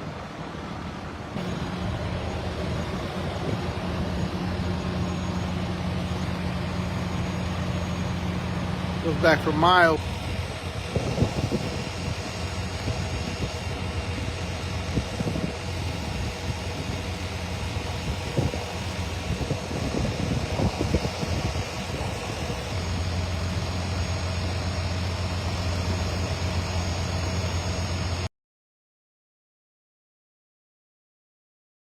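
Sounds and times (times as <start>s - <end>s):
vehicle engine humming: 0.0s - 28.3s.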